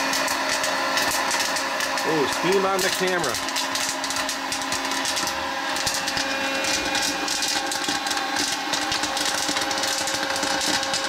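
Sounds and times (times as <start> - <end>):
popcorn kernels popping: 0.0 - 11.0
popcorn popper fan hum: 0.0 - 11.0.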